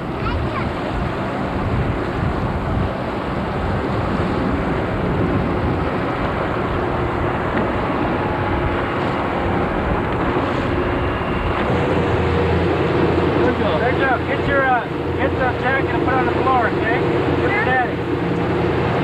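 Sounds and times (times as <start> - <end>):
motorboat engine running: 0.0 - 19.0.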